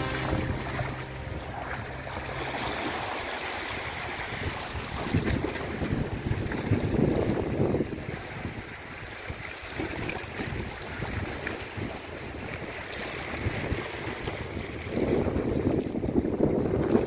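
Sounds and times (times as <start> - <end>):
sea washing: 0.0 - 17.0
wind buffeting microphone: 0.0 - 17.0.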